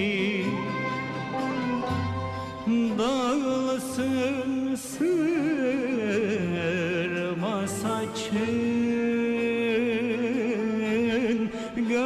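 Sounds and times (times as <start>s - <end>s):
man singing with vibrato: 0.0s - 12.0s
violin cello and zither ensemble: 0.0s - 12.0s.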